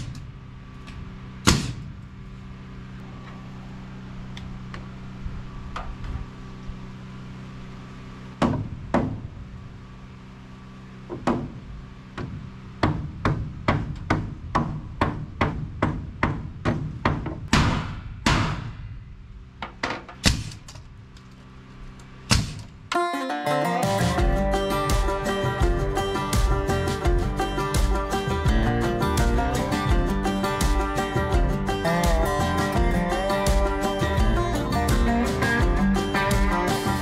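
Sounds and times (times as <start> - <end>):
steady low hum: 0.0 - 23.0, 24.0 - 37.0.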